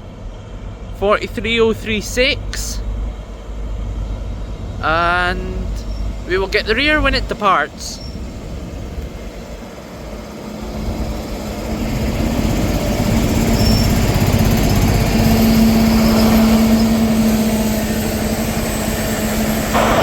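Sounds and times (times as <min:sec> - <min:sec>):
train diesel engine humming: 0:00.0 - 0:20.0.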